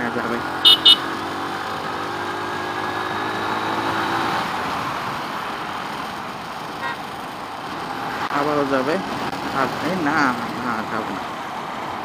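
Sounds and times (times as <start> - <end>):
vehicle engine hum: 0.0 - 12.0
wind and road noise: 0.0 - 12.0.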